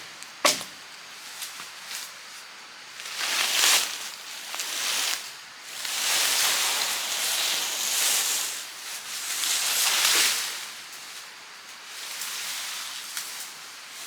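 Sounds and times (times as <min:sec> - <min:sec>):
leaves rustling: 0:00.0 - 0:14.0.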